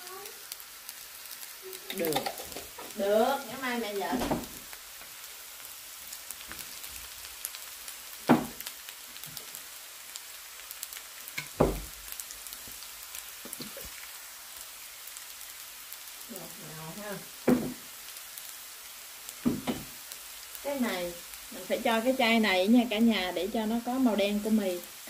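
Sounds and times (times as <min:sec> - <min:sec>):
noodles sizzling in a wok: 0:00.0 - 0:25.0.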